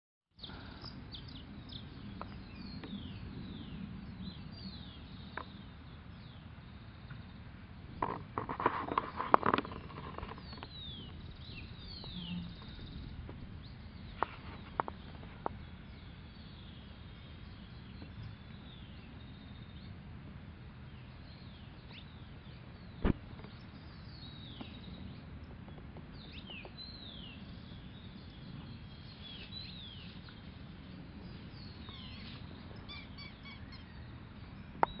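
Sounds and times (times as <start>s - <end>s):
low outdoor hum: 0.4s - 35.0s
small birds chirping: 0.4s - 35.0s.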